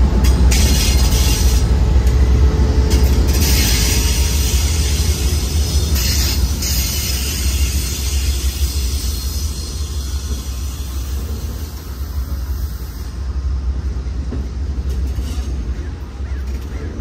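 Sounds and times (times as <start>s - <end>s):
train cars rolling past: 0.0s - 17.0s.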